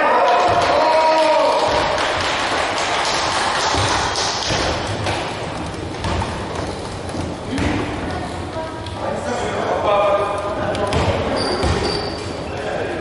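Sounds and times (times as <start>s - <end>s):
steady noisy background: 0.0s - 13.0s.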